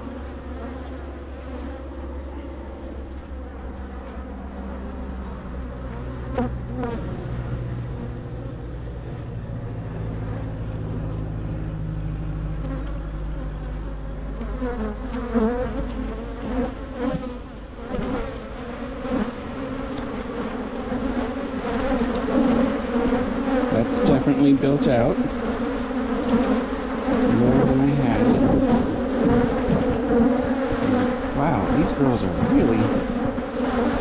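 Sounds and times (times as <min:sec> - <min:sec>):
bee buzzing past microphone: 0:00.0 - 0:34.0
bees buzzing in swarm: 0:00.0 - 0:34.0.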